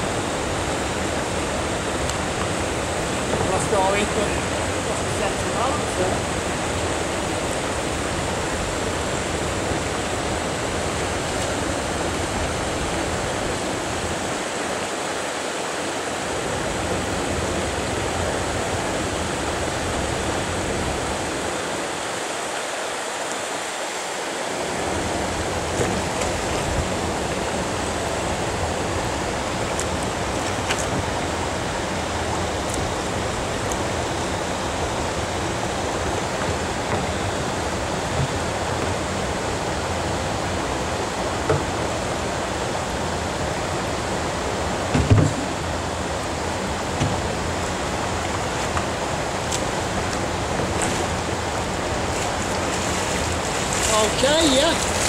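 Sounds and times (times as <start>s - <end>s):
river water flowing over pebbles: 0.0s - 55.0s.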